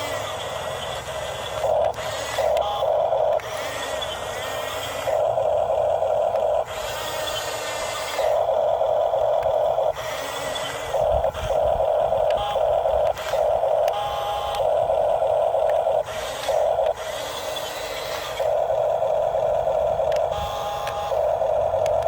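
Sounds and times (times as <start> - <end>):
electric motor whining: 0.0 - 22.0
quiet drone: 0.0 - 22.0.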